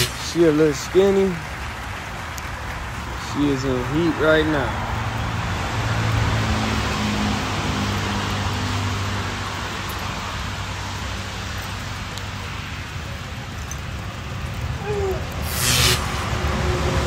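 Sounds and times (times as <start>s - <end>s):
road noise inside car: 3.0s - 17.0s.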